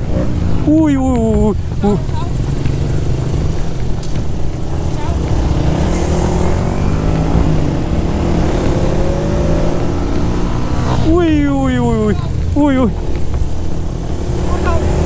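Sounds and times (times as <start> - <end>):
motorcycle engines accelerating: 0.0 - 15.0.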